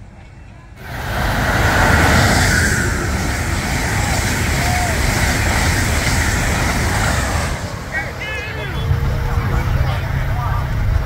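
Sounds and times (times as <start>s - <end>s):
train passing at high speed: 0.7s - 11.0s.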